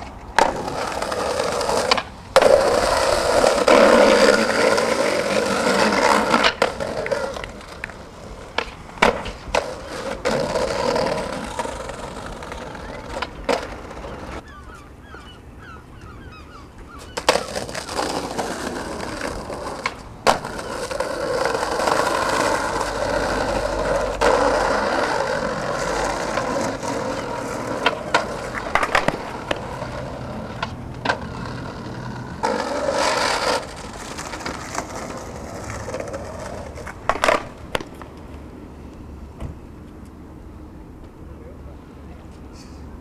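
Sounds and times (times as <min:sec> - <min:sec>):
skateboard clattering away: 0:00.0 - 0:14.4, 0:17.2 - 0:38.1
skateboard popping and landing: 0:00.0 - 0:14.4, 0:17.1 - 0:38.4
skateboard wheels rolling on pavement: 0:00.0 - 0:43.0.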